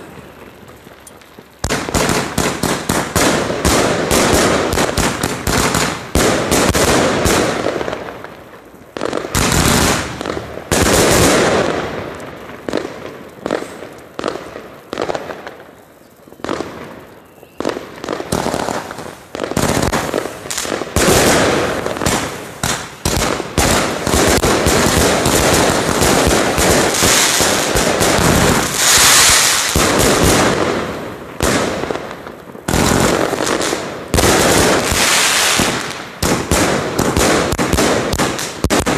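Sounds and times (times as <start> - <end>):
fireworks launching and bursting: 0.0 - 38.9.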